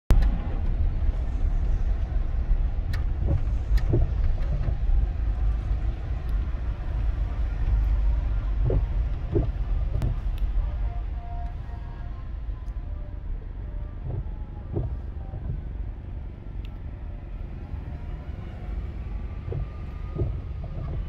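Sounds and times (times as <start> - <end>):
traffic rumble from inside a car: 0.1 - 21.0.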